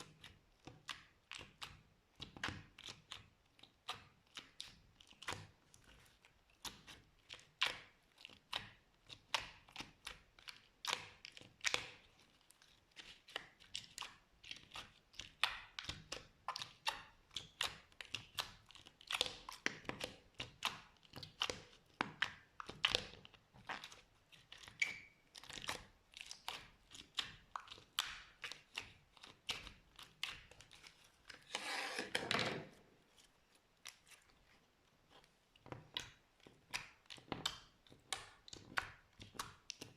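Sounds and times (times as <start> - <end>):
slime squishing: 0.0 - 39.9.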